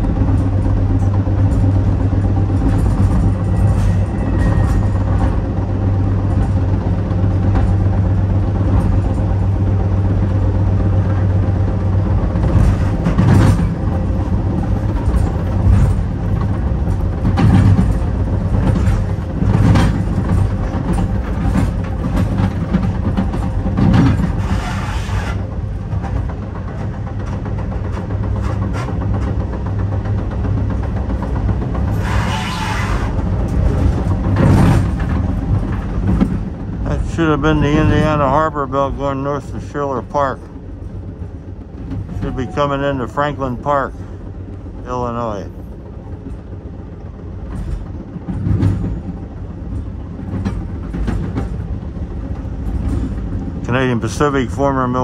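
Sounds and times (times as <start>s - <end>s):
train wheels rumbling on rails: 0.0s - 55.0s
wheels clattering over track joints: 0.0s - 55.0s.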